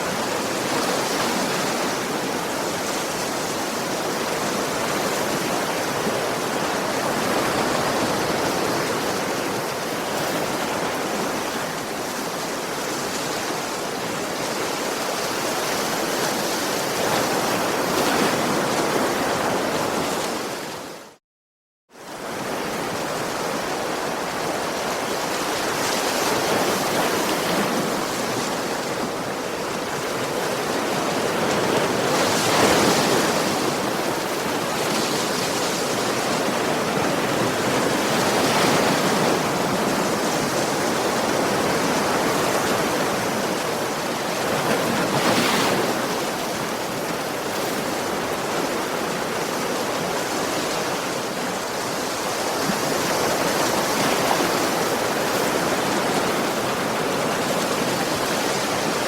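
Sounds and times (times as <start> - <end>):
ocean waves breaking on shore: 0.0 - 21.2, 22.0 - 59.0.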